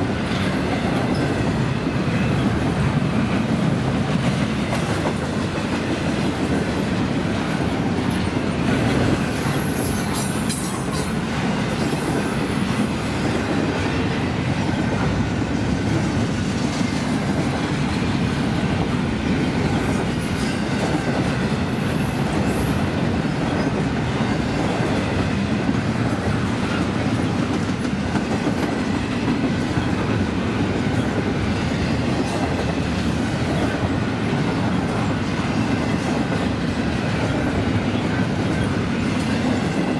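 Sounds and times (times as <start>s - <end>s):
steel wheels clattering on rail: 0.0s - 39.9s.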